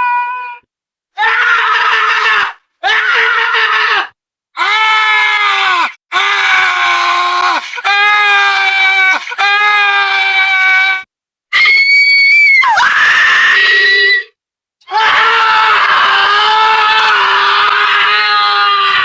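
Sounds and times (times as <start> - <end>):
person screaming: 0.0 - 11.0, 11.6 - 14.3, 14.9 - 19.0.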